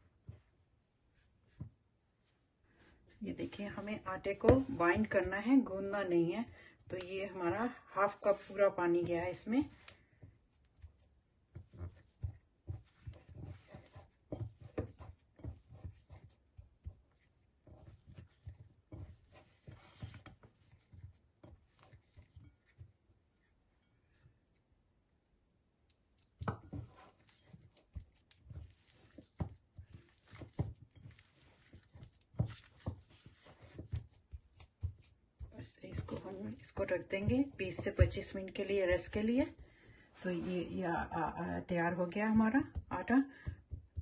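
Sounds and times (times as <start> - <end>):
dough squishing in hands: 0.0 - 44.0.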